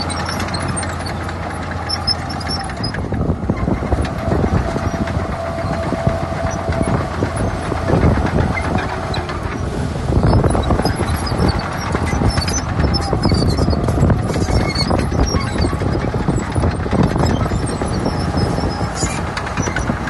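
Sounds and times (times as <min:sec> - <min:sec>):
bulldozer diesel engine running: 0:00.0 - 0:20.0
steel tracks clanking: 0:00.0 - 0:20.0.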